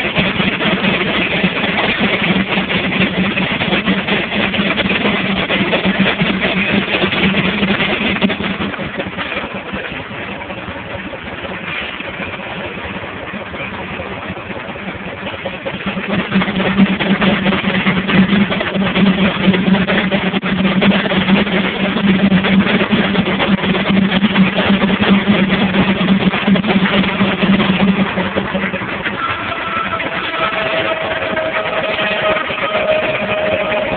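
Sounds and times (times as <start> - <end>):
steam engine hum: 0.0 - 33.9.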